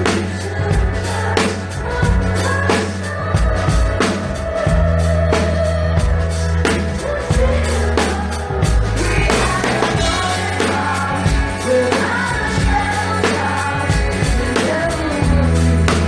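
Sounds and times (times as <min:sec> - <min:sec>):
drums beating: 0:00.0 - 0:16.0
live rock band playing: 0:00.0 - 0:16.0
woman singing: 0:00.0 - 0:16.0.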